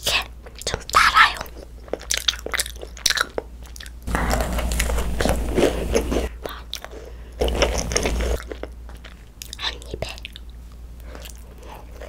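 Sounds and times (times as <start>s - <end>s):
chewing: 0.4s - 12.0s.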